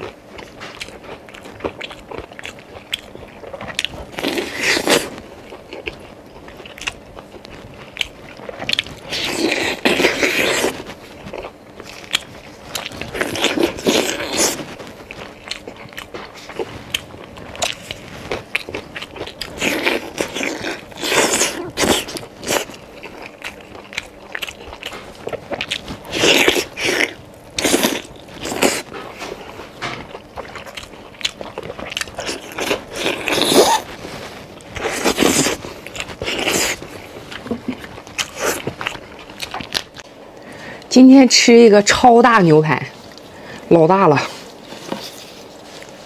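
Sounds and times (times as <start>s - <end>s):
wet chewing of meat: 0.0s - 40.9s.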